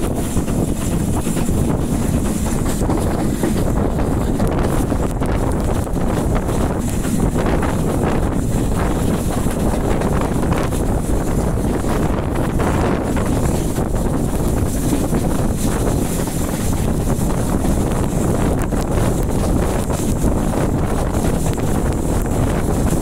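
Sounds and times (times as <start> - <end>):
train rumbling along track: 0.0 - 23.0
wind buffeting microphone: 0.0 - 23.0.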